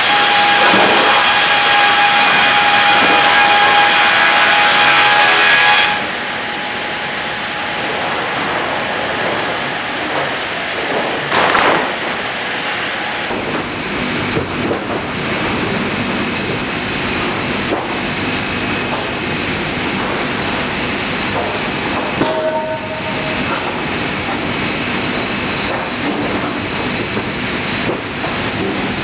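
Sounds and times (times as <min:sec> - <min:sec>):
high machine whine: 0:00.0 - 0:29.0
sawmill machinery rumble and hiss: 0:00.0 - 0:29.0.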